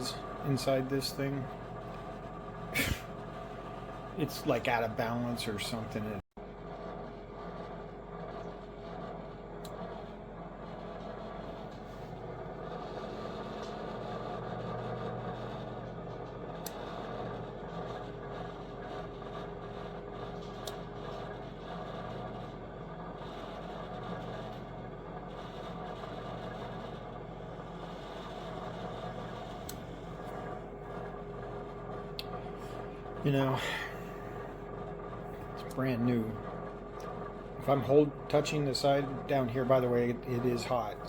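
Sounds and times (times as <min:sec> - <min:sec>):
convection fan humming: 0:00.0 - 0:06.2, 0:07.2 - 0:41.0.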